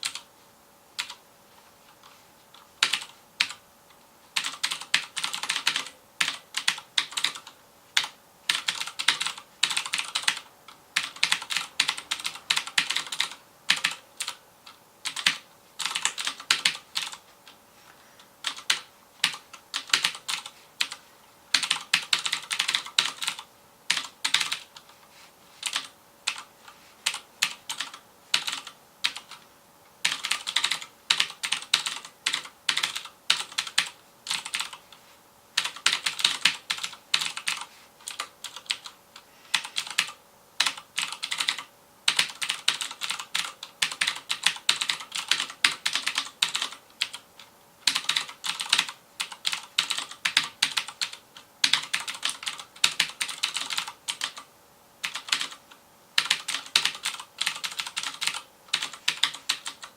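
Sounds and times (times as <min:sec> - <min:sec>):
clicky mechanical keyboard typing: 0:00.0 - 0:00.3, 0:01.0 - 0:01.2, 0:02.0 - 0:03.6, 0:04.4 - 0:17.6, 0:18.4 - 0:24.9, 0:25.6 - 0:29.4, 0:30.0 - 0:34.9, 0:35.6 - 0:59.9.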